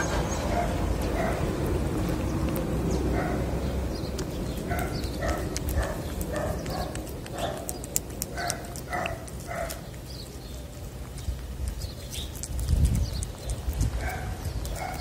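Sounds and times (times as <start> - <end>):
cat chewing wet food: 0.0 - 15.0.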